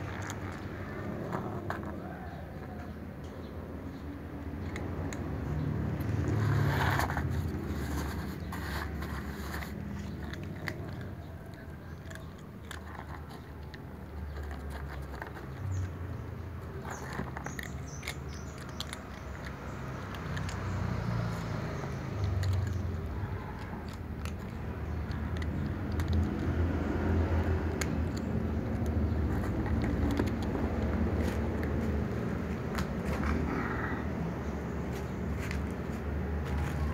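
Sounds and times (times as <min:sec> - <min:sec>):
cats crunching dry kibble: 0:00.0 - 0:36.9.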